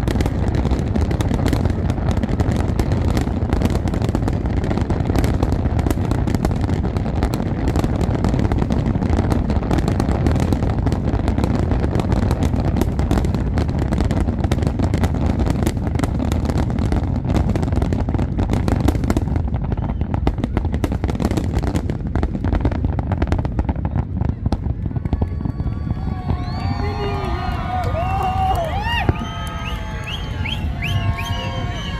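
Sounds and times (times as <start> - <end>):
fireworks cracks and bangs: 0.0 - 31.9.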